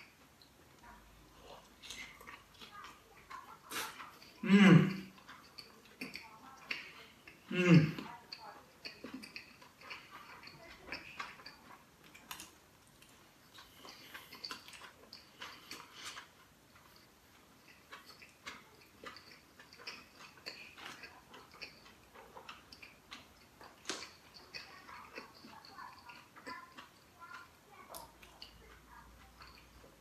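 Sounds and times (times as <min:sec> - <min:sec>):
person chewing with mouth closed: 0:00.0 - 0:30.0.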